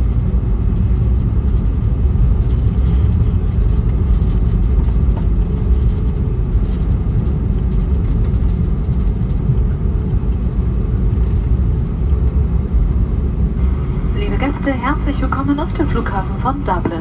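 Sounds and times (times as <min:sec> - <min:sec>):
airplane cabin rumble while taxiing: 0:00.0 - 0:17.0
faint steady hum: 0:00.0 - 0:17.0.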